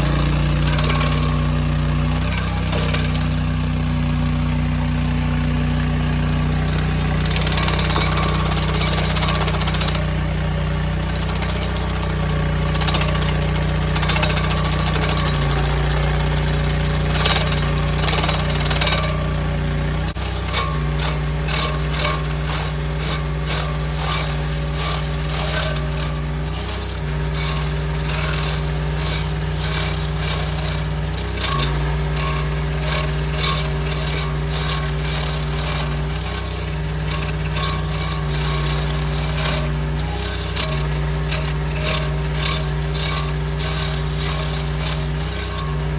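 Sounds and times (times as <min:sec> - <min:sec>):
skid steer engine running hard: 0:00.0 - 0:45.9
stump grinder chewing wood: 0:00.0 - 0:45.9.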